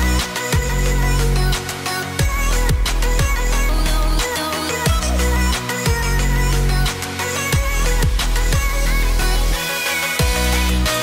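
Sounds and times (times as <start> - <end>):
electronic music with sliding bass: 0.0 - 11.0.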